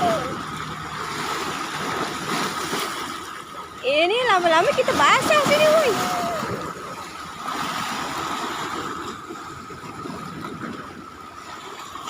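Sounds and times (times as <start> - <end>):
sea waves washing in: 0.0 - 12.0.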